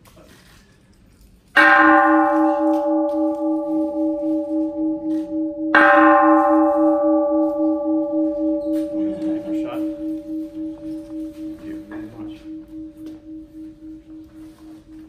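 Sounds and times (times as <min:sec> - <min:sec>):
large bell ringing: 0:01.6 - 0:15.0.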